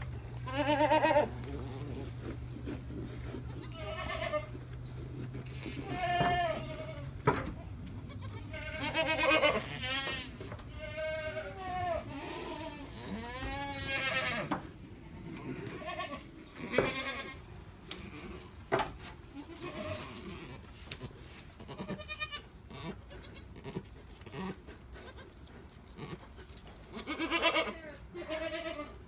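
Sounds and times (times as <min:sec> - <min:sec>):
goat bleating: 0:00.1 - 0:18.6, 0:19.3 - 0:29.0.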